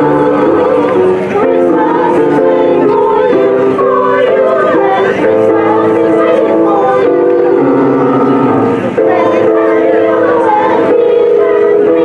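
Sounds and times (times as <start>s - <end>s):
electronic keyboard: 0.0s - 12.0s
mixed choir singing: 0.0s - 12.0s.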